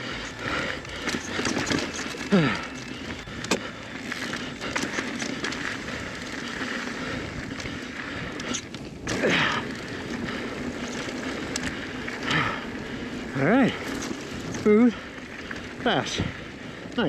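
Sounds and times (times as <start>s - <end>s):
bike frame rattling and clicking: 0.0s - 16.6s
bike tyres rolling on dirt: 0.0s - 17.0s.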